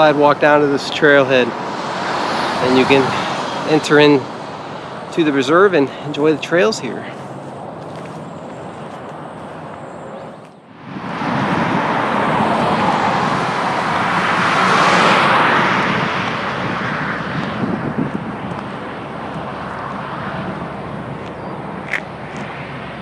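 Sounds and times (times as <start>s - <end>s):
vehicle passing on road: 0.0s - 23.0s.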